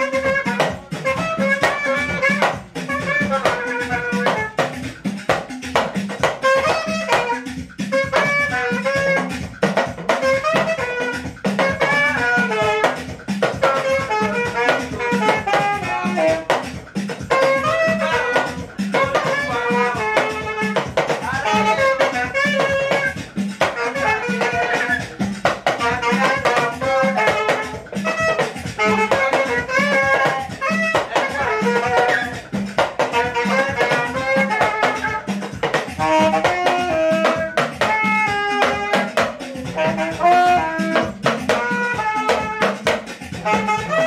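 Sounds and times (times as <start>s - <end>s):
saxophone melody: 0.0s - 44.0s
steady drum beat: 0.0s - 44.0s.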